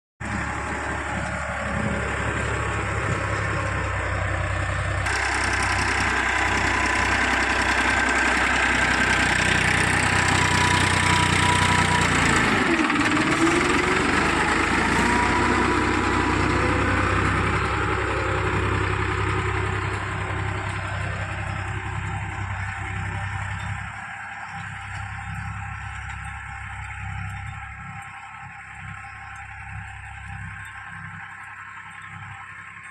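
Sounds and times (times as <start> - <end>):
heavy diesel engines running: 0.2 - 32.9.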